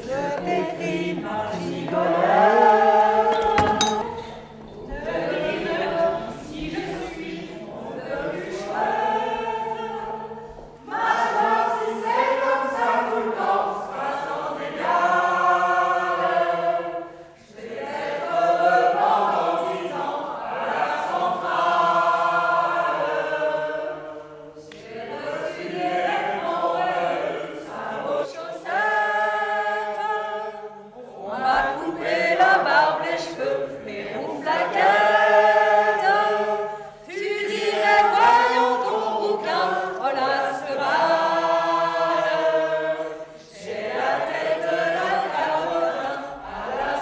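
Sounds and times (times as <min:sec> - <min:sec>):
mixed choir singing: 0:00.0 - 0:47.0.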